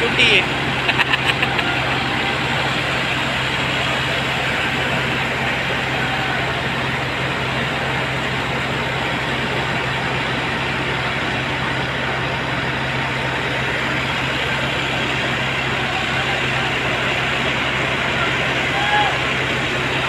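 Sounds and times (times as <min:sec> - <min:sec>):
heavy machinery running: 0:00.0 - 0:20.0.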